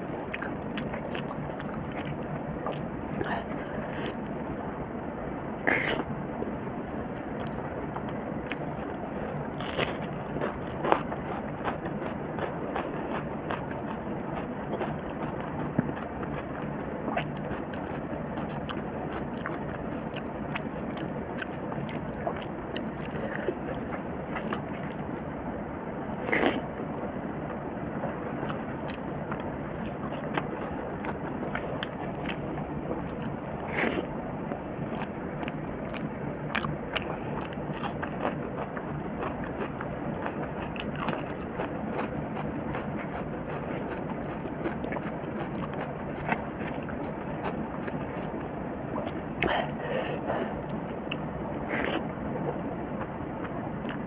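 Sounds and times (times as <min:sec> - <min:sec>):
chewing: 0:00.0 - 0:04.3, 0:07.4 - 0:25.3, 0:26.1 - 0:26.8, 0:28.4 - 0:52.1, 0:53.0 - 0:54.0.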